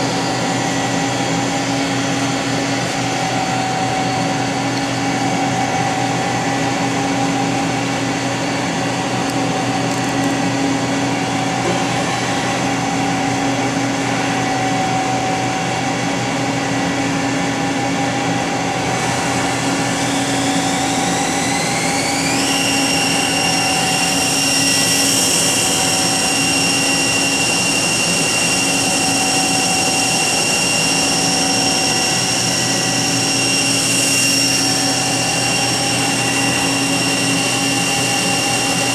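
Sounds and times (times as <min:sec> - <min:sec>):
high whine rising in pitch: 0:00.0 - 0:38.9
lathe machine hum: 0:00.0 - 0:38.9.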